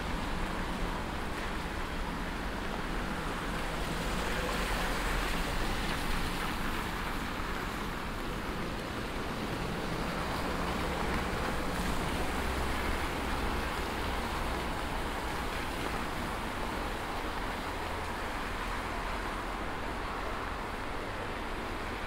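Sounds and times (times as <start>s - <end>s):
rain falling on street: 0.0s - 22.0s.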